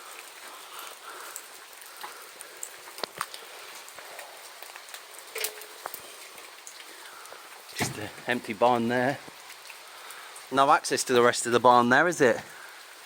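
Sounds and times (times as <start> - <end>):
heavy rain hissing: 0.0 - 13.0
sharp drips and patters: 0.0 - 13.0.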